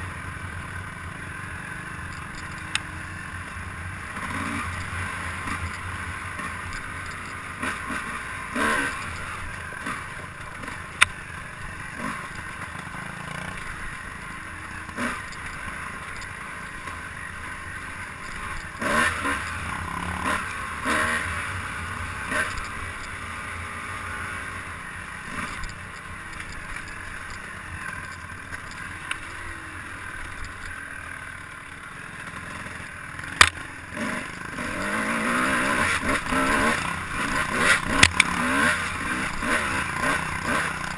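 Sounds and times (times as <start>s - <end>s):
vehicle riding over rough ground: 0.0s - 40.9s.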